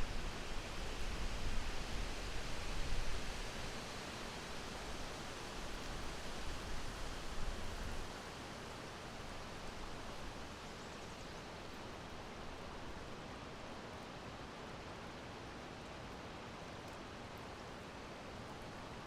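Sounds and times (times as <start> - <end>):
steady wind hiss: 0.0 - 19.0.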